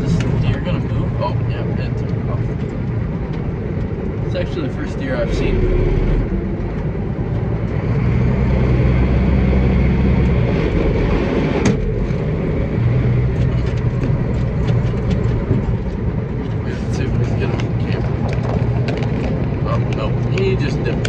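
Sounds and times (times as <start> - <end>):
farm machine engine droning: 0.0 - 21.0.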